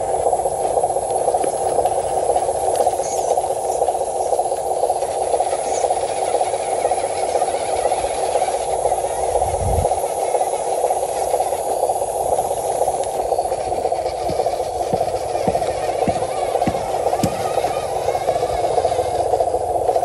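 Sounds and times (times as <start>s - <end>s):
electric motor whirring: 0.0s - 20.0s.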